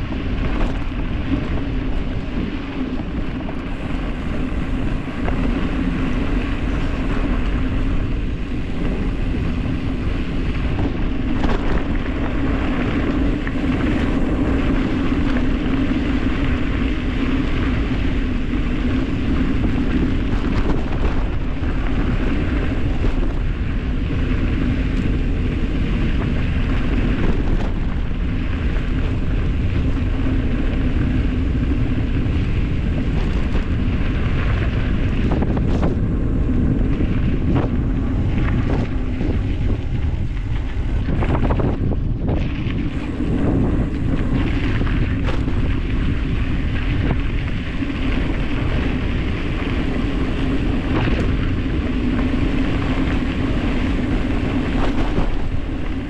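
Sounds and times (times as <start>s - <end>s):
bike clicks and rattles: 0.0s - 56.0s
tyres rolling over gravel: 0.0s - 56.0s
wind buffeting microphone: 0.0s - 56.0s.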